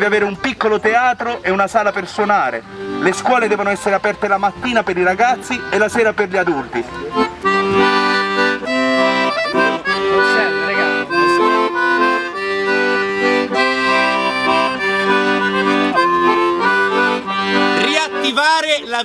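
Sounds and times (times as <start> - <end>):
piano accordion playing a tune: 0.0 - 19.0.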